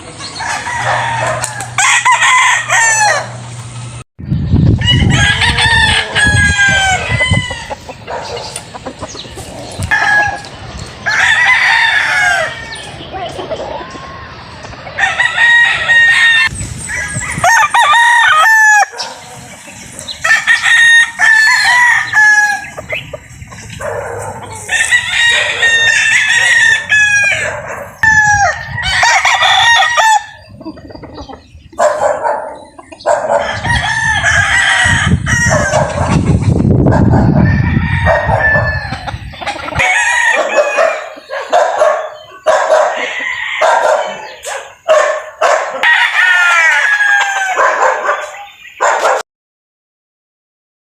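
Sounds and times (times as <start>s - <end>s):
roosters crowing: 0.0s - 3.8s, 4.6s - 49.2s.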